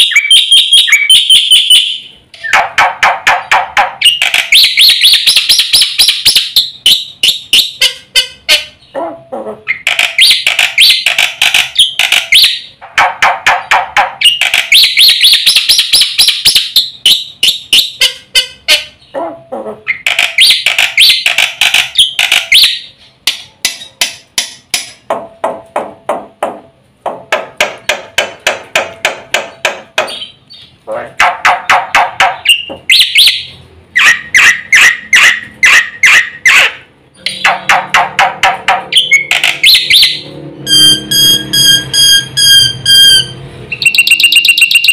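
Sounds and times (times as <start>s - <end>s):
sharp clicking bird notes: 0.0s - 8.8s, 9.7s - 19.0s, 19.9s - 25.7s, 27.2s - 40.2s
starling chattering song: 0.0s - 24.0s, 30.1s - 44.9s.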